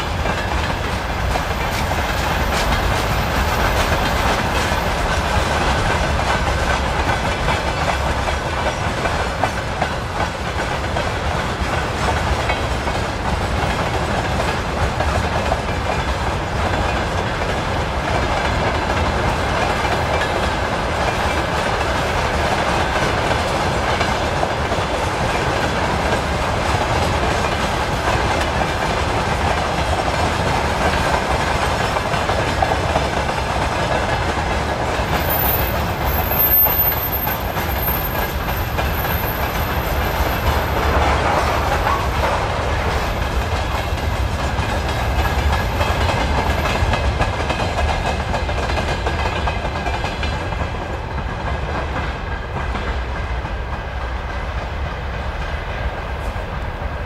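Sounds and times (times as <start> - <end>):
freight train rumbling past: 0.0 - 57.0
steel wheels clattering on rails: 0.0 - 57.0.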